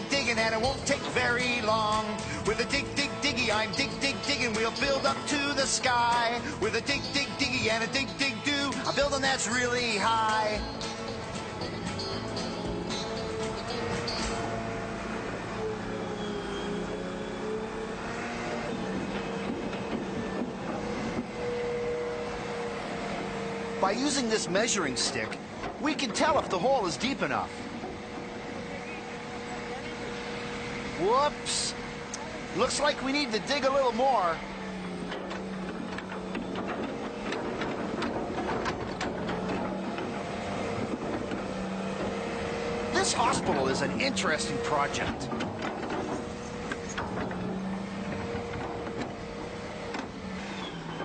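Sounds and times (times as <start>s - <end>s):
excavator diesel engine: 0.0s - 51.0s
hydraulics whining: 0.0s - 51.0s.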